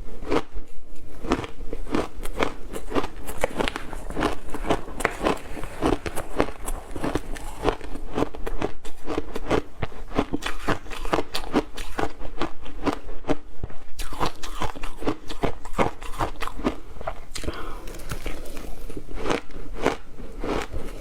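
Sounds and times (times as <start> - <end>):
ice being chewed: 0.2 - 21.0.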